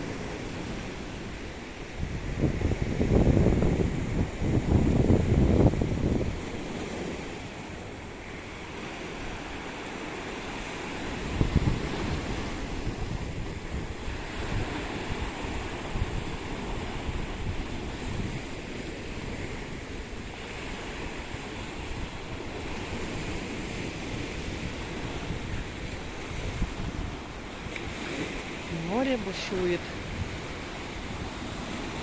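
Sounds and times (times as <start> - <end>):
surf breaking in a steady roar: 0.0 - 32.0
wind buffeting the microphone: 0.0 - 32.0.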